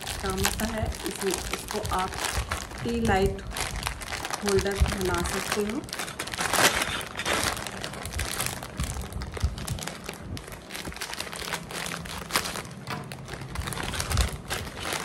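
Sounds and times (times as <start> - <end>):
plastic and paper crinkling: 0.0 - 15.0.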